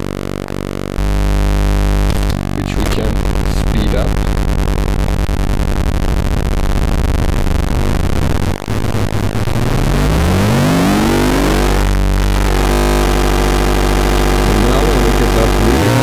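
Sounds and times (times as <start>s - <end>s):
harsh metallic oscillator buzz: 0.0s - 16.0s.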